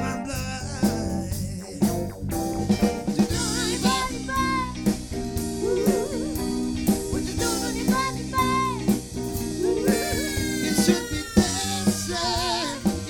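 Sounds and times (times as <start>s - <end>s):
drum kit hits: 0.0s - 13.0s
live soul band playing: 0.0s - 13.0s
steady bass line: 0.0s - 13.0s.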